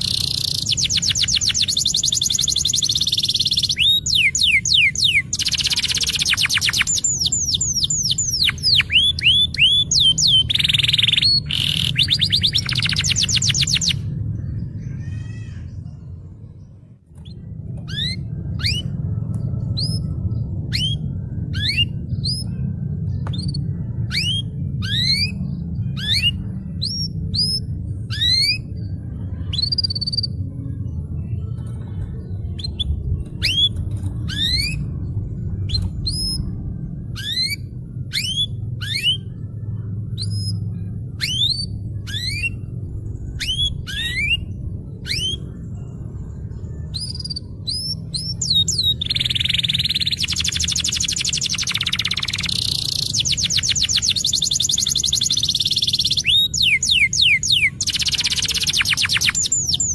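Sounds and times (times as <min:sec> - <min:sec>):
canary chirping: 0:00.0 - 0:14.2, 0:17.2 - 0:19.1, 0:19.7 - 0:30.5, 0:32.5 - 0:39.5, 0:40.2 - 0:59.9
low rumble: 0:00.0 - 0:59.9.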